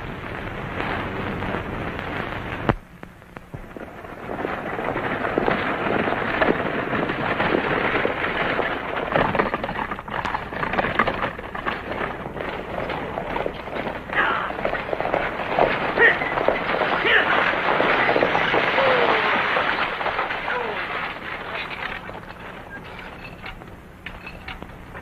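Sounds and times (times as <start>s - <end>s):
coach wheels rattling: 3.6s - 25.0s
horse hoofbeats clattering: 3.6s - 25.0s.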